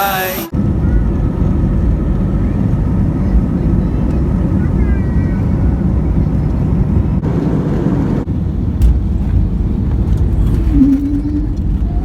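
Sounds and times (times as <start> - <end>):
vehicle cabin rumble: 0.0 - 12.0.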